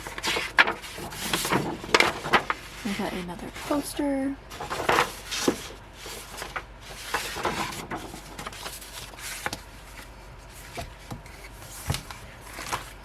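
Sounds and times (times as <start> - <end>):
paper and card rustling: 0.0 - 13.0.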